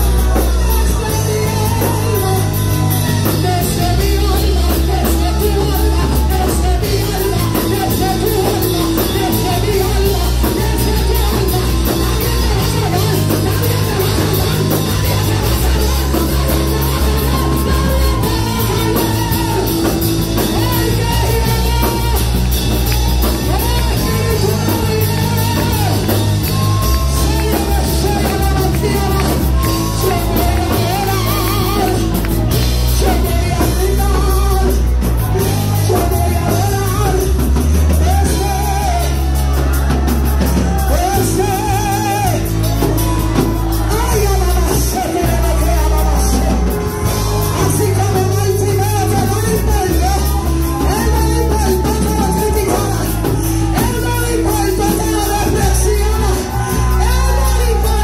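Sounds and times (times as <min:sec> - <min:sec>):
keyboard with heavy bass: 0:00.0 - 0:58.0.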